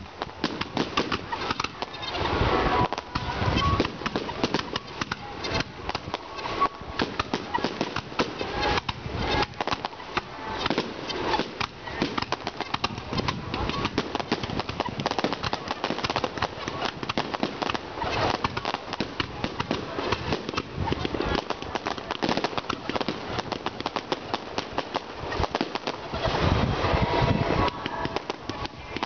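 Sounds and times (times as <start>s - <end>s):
crowd voices: 0.0s - 29.0s
fireworks crackling: 0.0s - 29.0s.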